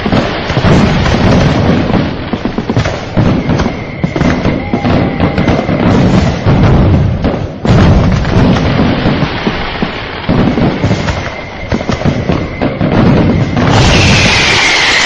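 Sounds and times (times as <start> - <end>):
hissing firework whistle: 0.0 - 6.7, 8.7 - 15.0
fireworks booming and crackling: 0.0 - 15.0.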